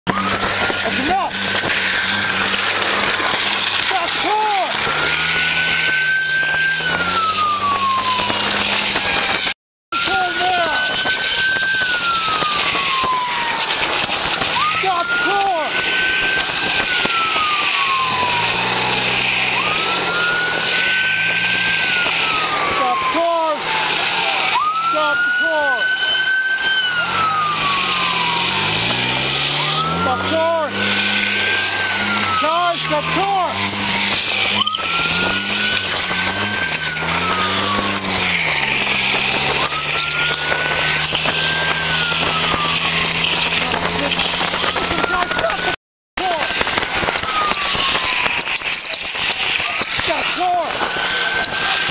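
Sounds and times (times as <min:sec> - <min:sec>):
car engine accelerating: 0:00.0 - 0:51.9
high rising and falling tone: 0:00.0 - 0:51.9
boot soles skidding on asphalt: 0:00.1 - 0:09.6, 0:12.9 - 0:24.4, 0:25.4 - 0:51.9
police siren wailing: 0:00.1 - 0:51.9
wind and road noise: 0:00.1 - 0:51.9.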